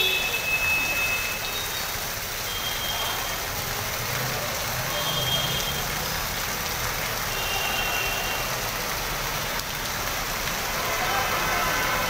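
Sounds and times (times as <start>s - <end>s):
floodwater running across road: 0.0s - 12.0s
heavy rain hissing: 0.0s - 12.0s.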